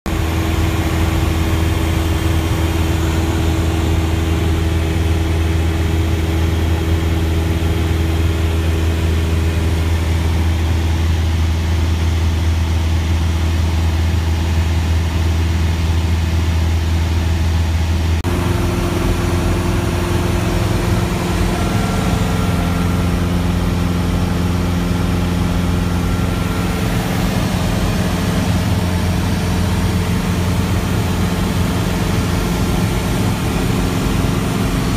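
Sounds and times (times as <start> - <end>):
airplane engine and propeller droning: 0.1 - 34.9.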